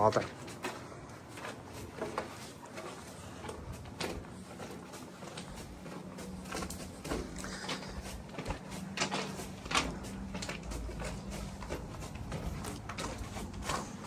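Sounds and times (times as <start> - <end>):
footsteps on rocky trail: 0.0 - 14.0.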